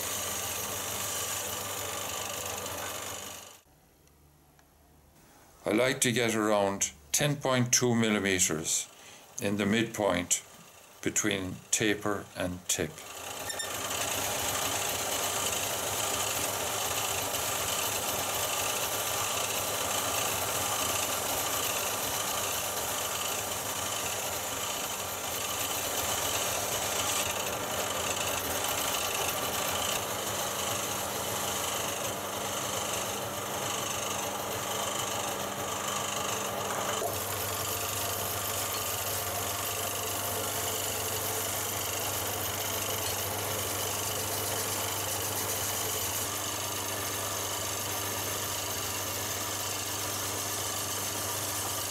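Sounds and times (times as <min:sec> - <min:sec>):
plane shaving spinning wood: 0:00.0 - 0:03.6, 0:08.0 - 0:51.9
wood lathe running: 0:00.0 - 0:03.7, 0:08.0 - 0:51.9.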